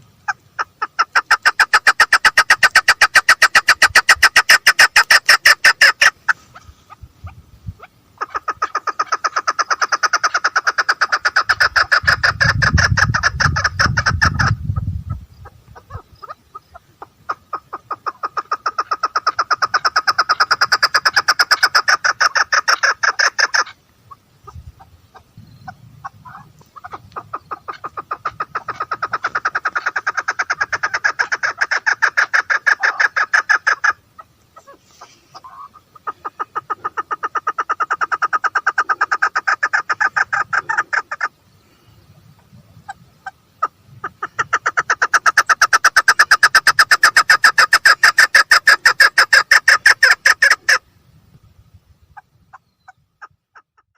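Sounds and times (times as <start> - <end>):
partridge clucking calls: 0.0 - 50.9, 52.0 - 53.9.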